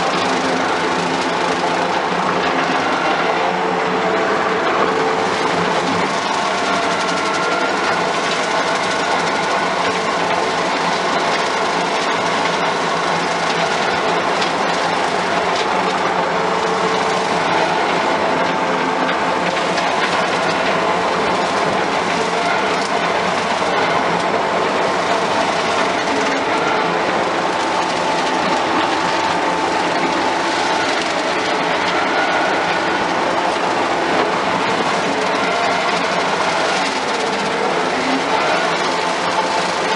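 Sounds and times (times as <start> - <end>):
skid steer running under load: 0.0 - 39.9.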